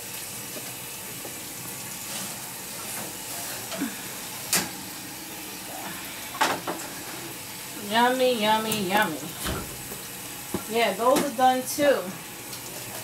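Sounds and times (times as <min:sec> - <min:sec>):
patties sizzling in a pan: 0:00.0 - 0:13.0.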